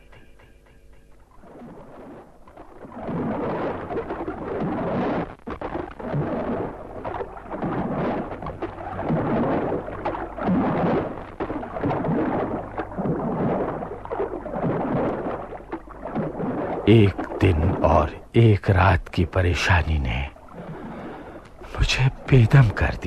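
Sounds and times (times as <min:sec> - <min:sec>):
rough sea water washing around boat: 0:01.4 - 0:18.8, 0:19.8 - 0:23.0.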